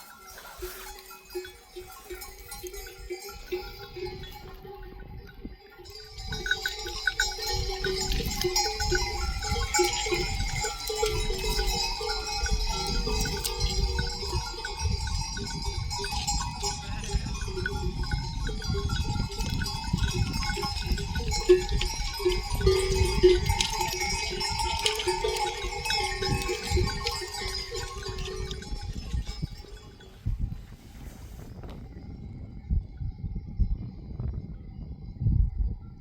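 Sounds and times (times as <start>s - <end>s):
sheep bells clanking: 0.0s - 30.8s.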